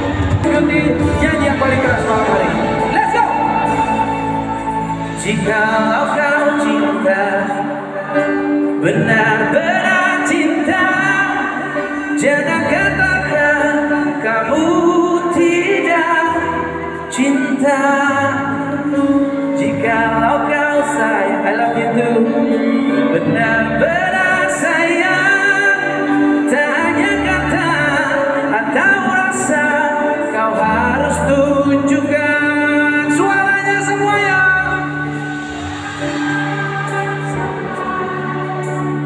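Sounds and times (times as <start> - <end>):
live pop band playing: 0.0 - 39.0
man singing: 0.0 - 39.0.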